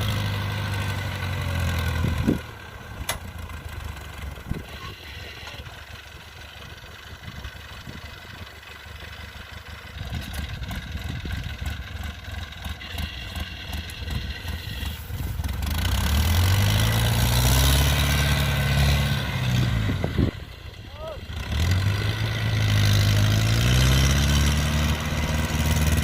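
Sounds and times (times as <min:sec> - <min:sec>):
combine harvester engine revving: 0:00.0 - 0:26.0.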